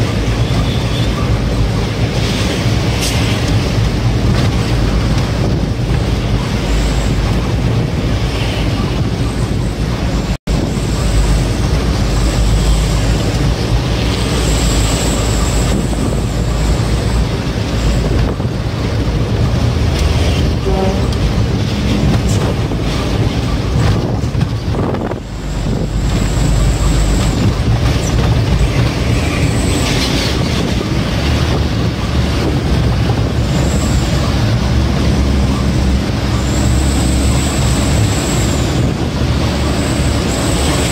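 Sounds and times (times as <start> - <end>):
road and wind noise: 0.0 - 40.9
truck engine rumble: 0.0 - 40.9.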